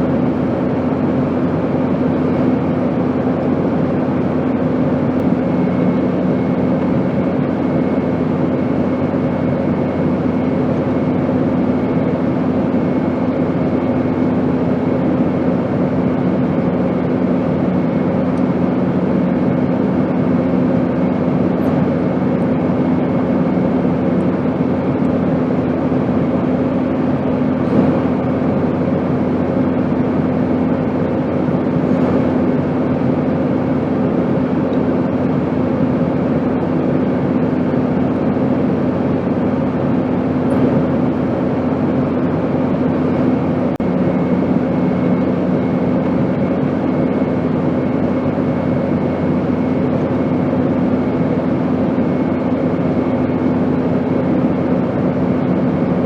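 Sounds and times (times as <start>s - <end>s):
airplane in flight drone: 0.0s - 56.0s.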